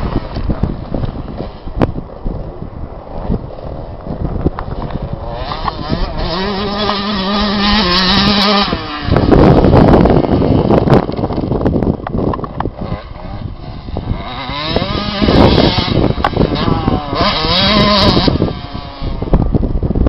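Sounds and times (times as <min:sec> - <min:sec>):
motocross bike engine revving: 0:02.7 - 0:19.9.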